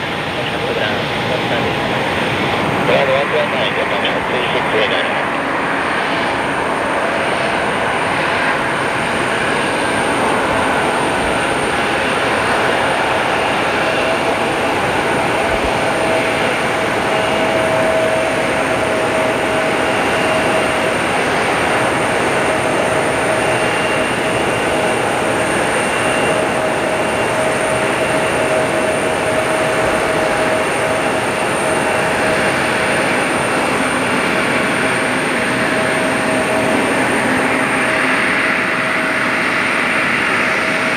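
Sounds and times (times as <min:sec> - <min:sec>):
jet engines taxiing: 0:00.0 - 0:40.9.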